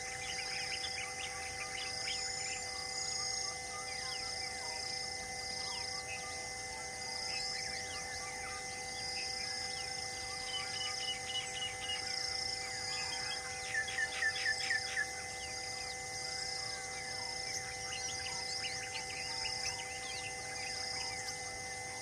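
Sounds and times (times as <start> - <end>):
birds chirping and calling: 0.0 - 4.3, 7.4 - 21.5
insects chorus: 0.0 - 22.0
steady droning tones: 0.0 - 22.0.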